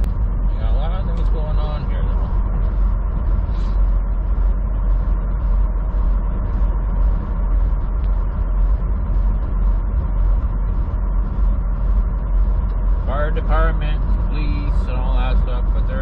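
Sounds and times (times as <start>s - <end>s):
diesel truck engine rumble: 0.0s - 16.0s
road noise: 0.0s - 16.0s.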